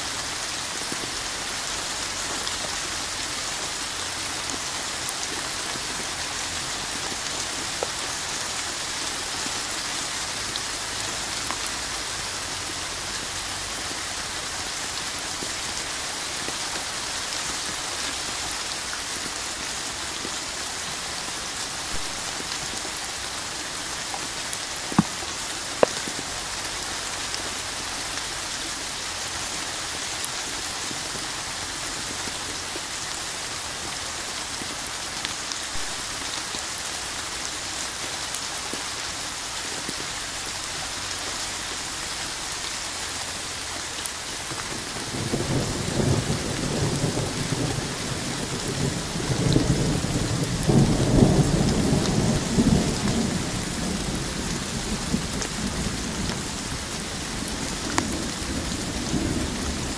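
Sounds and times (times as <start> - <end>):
rain on hard surface: 0.0 - 59.9.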